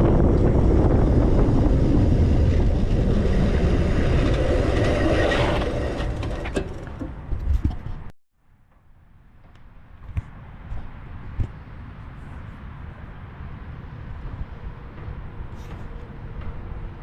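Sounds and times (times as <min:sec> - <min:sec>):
wind and road rumble: 0:00.0 - 0:17.0.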